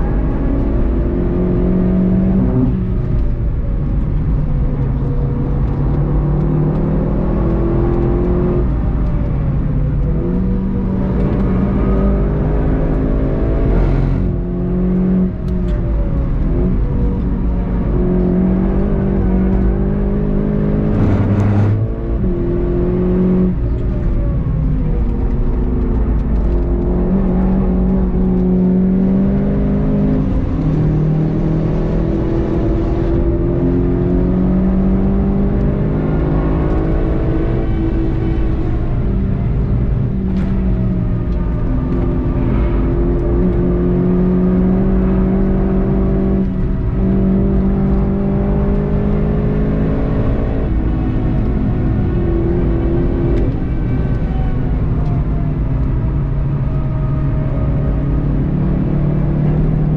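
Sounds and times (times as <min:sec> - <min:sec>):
car engine revving through gears: 0:00.0 - 0:59.9
tyre and road noise: 0:00.0 - 0:59.9.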